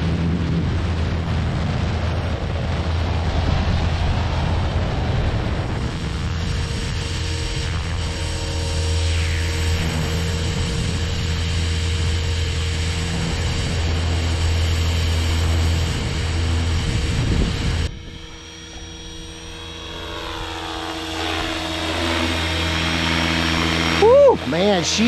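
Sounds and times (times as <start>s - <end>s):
rc helicopter rotor drone: 0.0s - 25.0s.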